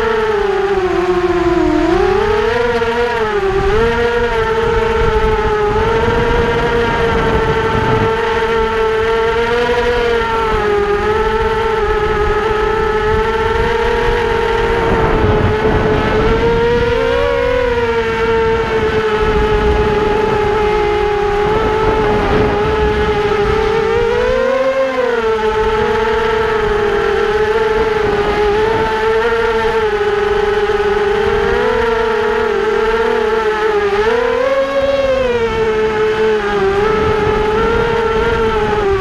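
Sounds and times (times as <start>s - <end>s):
small aircraft propeller drone: 0.0s - 39.0s
wind rumble on microphone: 0.0s - 39.0s.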